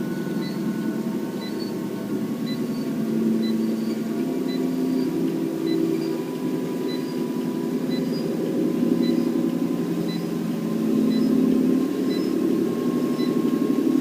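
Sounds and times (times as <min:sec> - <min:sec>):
treadmill motor humming: 0:00.0 - 0:14.0.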